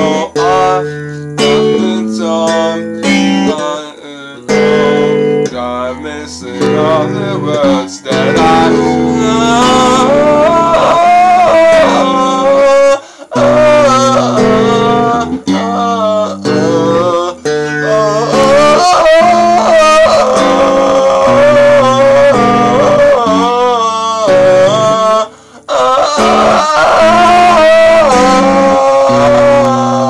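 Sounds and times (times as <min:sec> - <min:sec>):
guitar chords: 0:00.0 - 0:30.0
man singing: 0:00.0 - 0:30.0.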